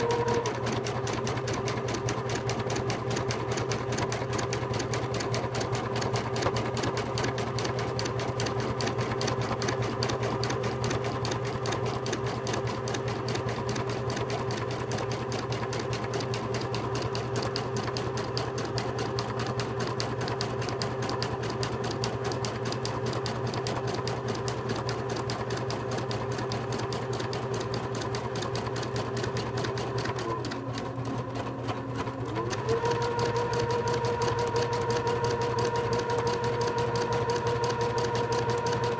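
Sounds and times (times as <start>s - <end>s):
embroidery machine stitching: 0.0s - 38.9s.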